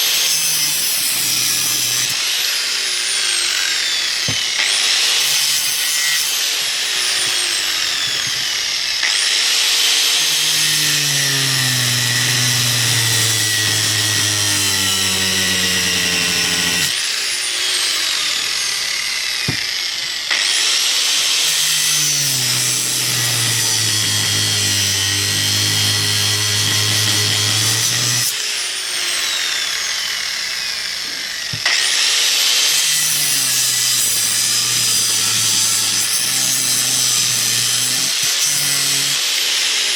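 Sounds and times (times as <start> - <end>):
power tool cutting metal: 0.0 - 39.9.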